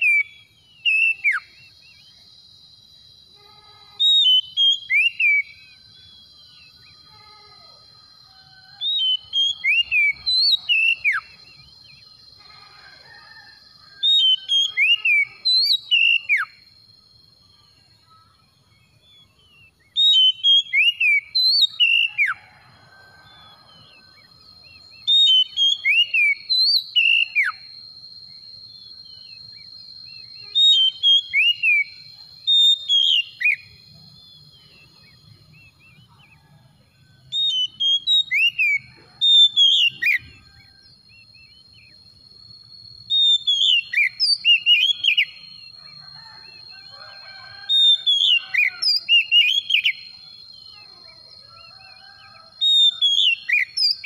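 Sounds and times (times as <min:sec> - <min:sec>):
bird singing whistled notes: 0:00.0 - 0:03.1, 0:03.9 - 0:07.2, 0:08.7 - 0:12.2, 0:14.0 - 0:16.8, 0:17.6 - 0:54.0.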